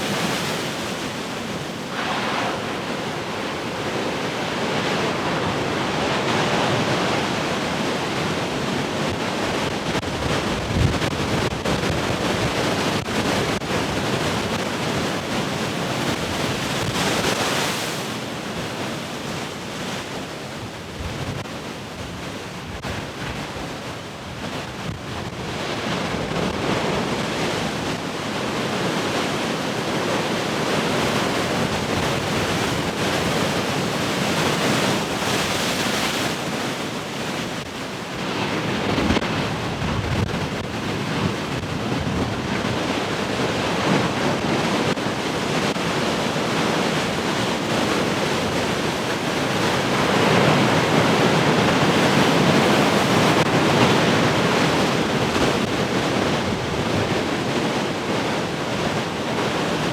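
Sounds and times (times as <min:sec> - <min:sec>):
heavy ocean waves breaking: 0:00.0 - 0:59.9.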